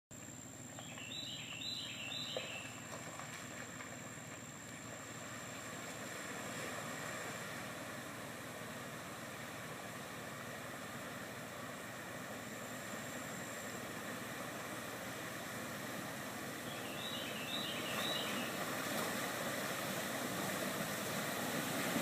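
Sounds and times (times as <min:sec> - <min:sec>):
vehicle engine running: 0:00.1 - 0:22.0
water rushing: 0:02.2 - 0:22.0.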